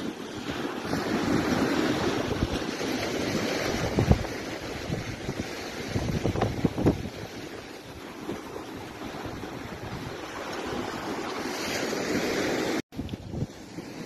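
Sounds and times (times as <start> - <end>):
wind buffeting the microphone: 0.0 - 11.2, 12.9 - 14.0
surf breaking on a beach: 0.0 - 14.0.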